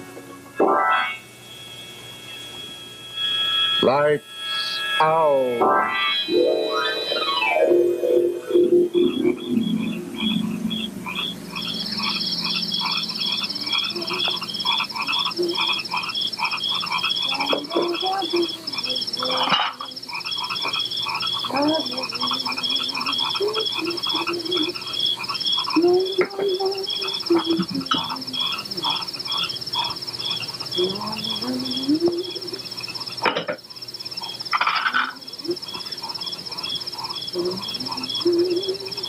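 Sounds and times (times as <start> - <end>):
frogs croaking: 0.0 - 39.0
high insect trill: 0.5 - 39.0
owl hooting: 6.2 - 39.0.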